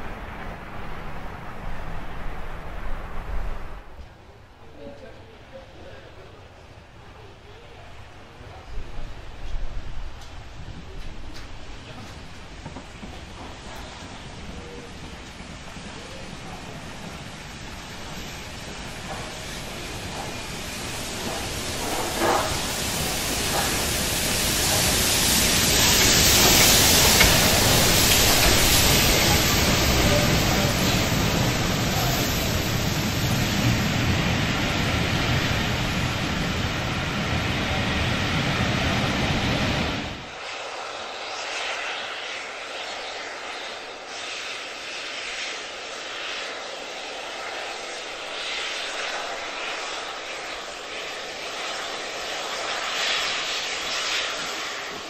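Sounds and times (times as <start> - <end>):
train rumbling: 0.0 - 55.0
steam hissing: 7.5 - 55.0.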